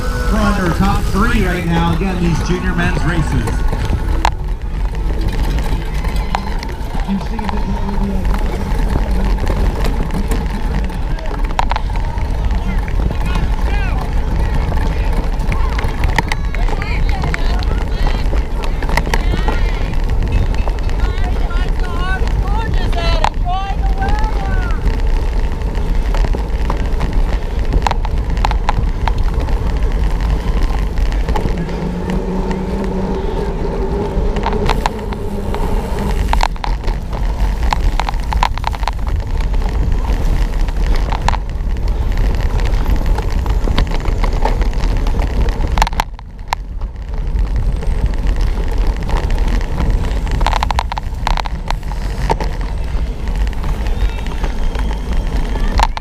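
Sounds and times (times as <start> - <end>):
bike rattling and knocking: 0.0 - 56.0
wind rushing over microphone: 0.0 - 56.0.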